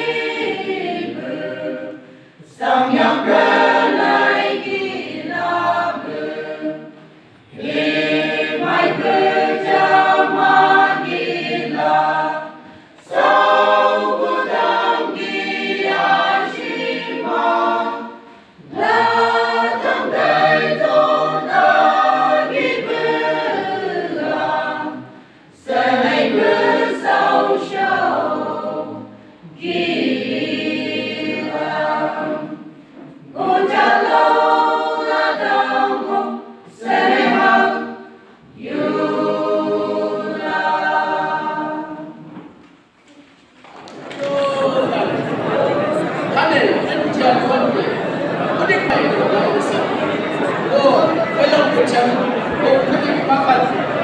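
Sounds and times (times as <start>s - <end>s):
choir singing in parts: 0.0s - 43.0s, 43.7s - 54.0s.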